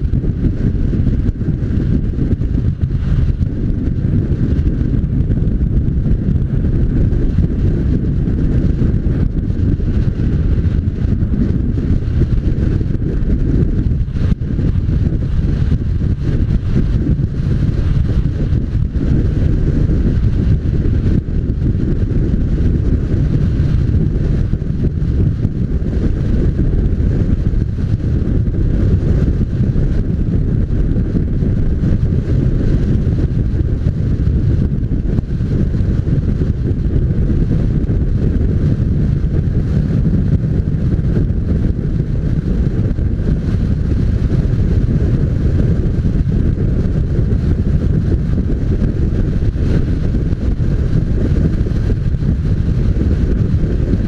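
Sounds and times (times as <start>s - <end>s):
motorcycle engine and road noise: 0.0s - 54.0s
wind buffeting microphone: 0.0s - 54.0s.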